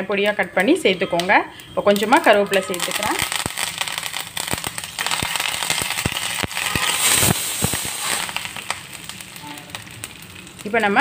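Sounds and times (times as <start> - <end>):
curry leaves crackling in hot oil: 0.0 - 11.0.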